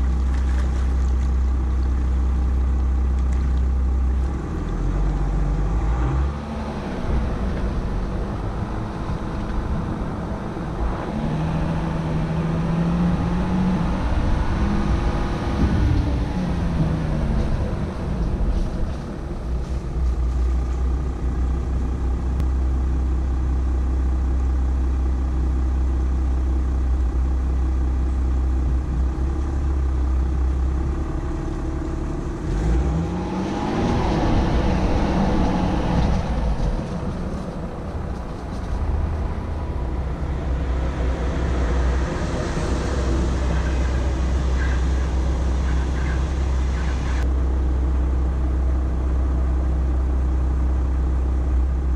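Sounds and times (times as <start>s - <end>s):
pickup engine droning and revving: 0.0s - 22.8s, 26.3s - 51.9s.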